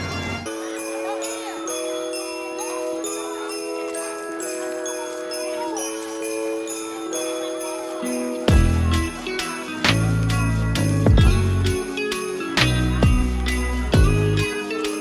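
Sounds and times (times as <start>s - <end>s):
christmas music with sleigh bells: 0.0s - 15.0s.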